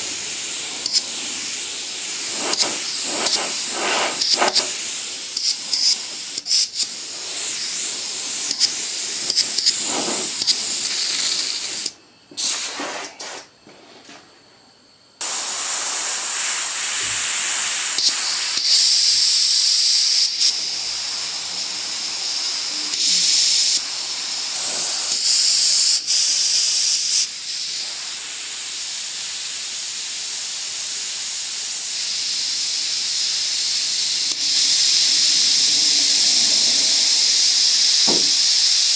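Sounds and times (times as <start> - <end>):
airbrush spraying air hiss: 0.0 - 13.5, 15.2 - 38.9.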